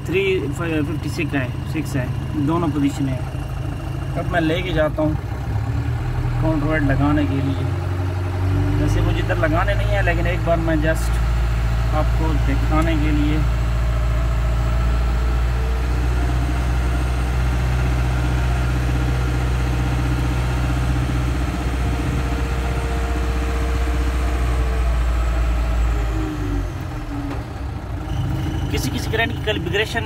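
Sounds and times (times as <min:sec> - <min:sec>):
crane diesel engine drone: 0:00.0 - 0:30.0.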